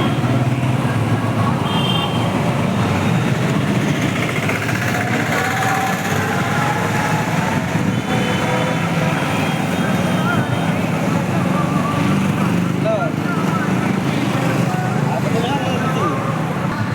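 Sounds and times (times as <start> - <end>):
loud vehicle noise: 0.0 - 16.9.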